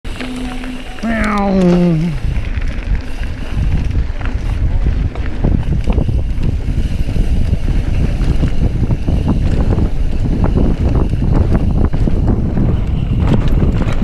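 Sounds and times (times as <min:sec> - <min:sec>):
wind buffeting microphone: 0:01.0 - 0:14.0.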